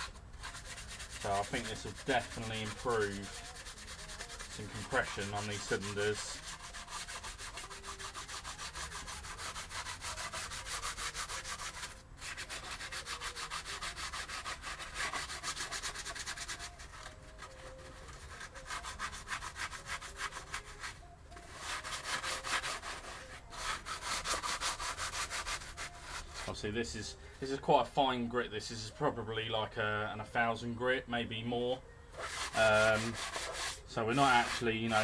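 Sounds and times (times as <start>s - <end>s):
abrasive pad rubbing metal: 0.0s - 26.6s, 32.1s - 35.0s.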